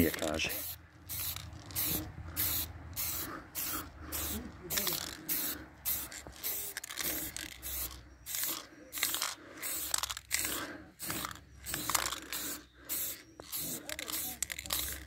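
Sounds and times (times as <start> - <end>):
spray paint can hissing: 0.1 - 15.0.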